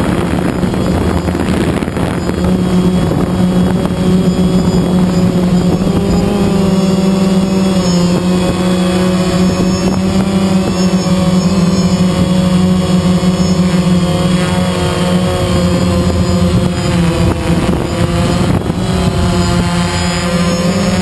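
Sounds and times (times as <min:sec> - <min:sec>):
drone buzzing hum: 0:00.0 - 0:21.0
drone motors whining: 0:00.0 - 0:21.0.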